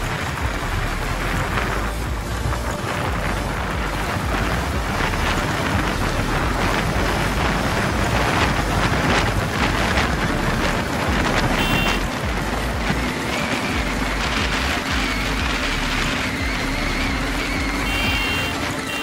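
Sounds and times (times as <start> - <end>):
motorcycle engine accelerating: 0.0 - 19.0
wind rushing over microphone: 0.0 - 19.0.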